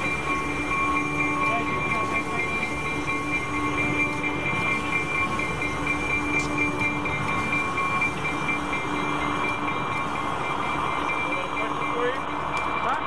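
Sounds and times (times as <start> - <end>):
diesel railcar drone and whine: 0.0 - 13.0.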